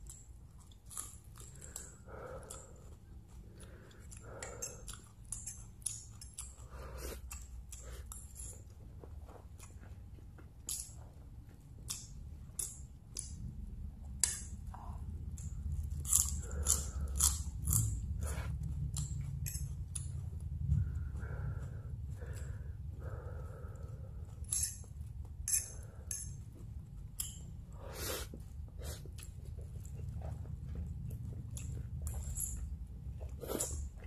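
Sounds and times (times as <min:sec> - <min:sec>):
chewing and slurping noodles: 0:00.0 - 0:13.4, 0:14.6 - 0:34.0
low steady hum: 0:00.0 - 0:34.0.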